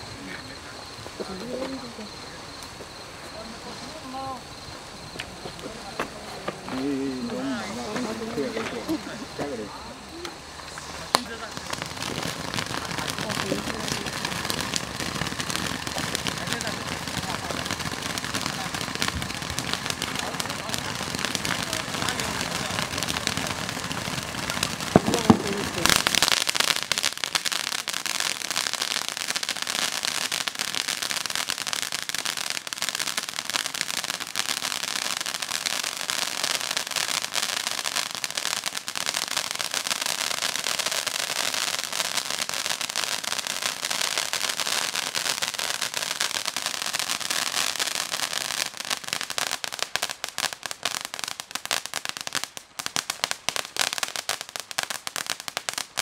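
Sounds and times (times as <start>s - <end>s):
firework fountain crackling: 0.0s - 56.0s.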